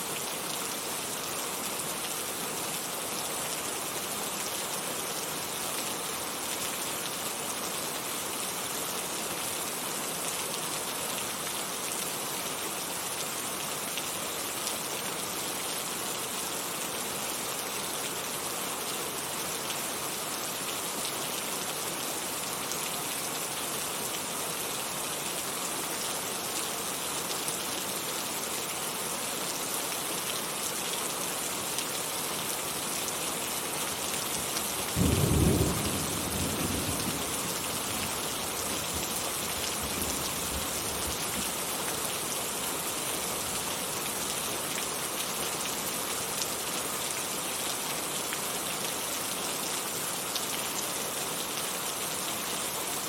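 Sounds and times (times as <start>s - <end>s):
heavy rain falling: 0.1s - 53.0s.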